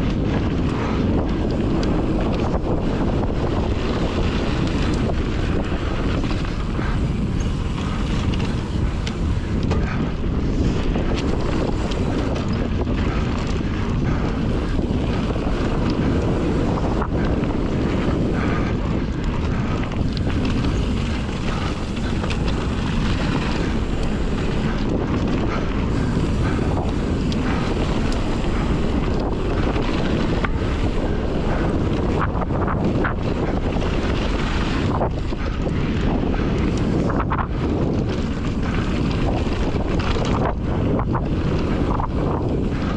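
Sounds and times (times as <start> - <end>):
bike clicks and rattles: 0.0 - 42.9
tyre noise on dirt trail: 0.0 - 42.9
wind buffeting microphone: 0.0 - 42.9.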